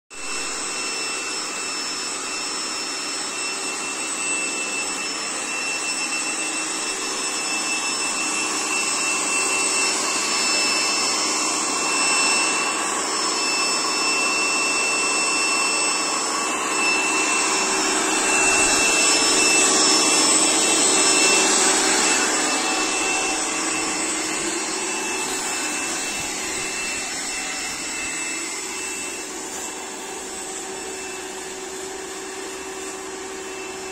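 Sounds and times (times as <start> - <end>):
pressure washer motor whine: 0.1 - 33.9.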